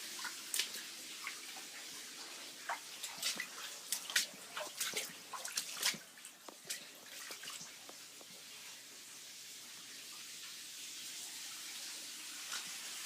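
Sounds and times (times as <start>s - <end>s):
water drips and splashes: 0.0s - 13.0s
water trickling: 0.0s - 13.0s.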